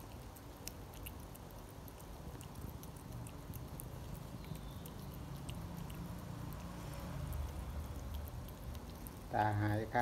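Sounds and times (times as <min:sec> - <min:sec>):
cat licking and chewing: 0:00.0 - 0:10.0.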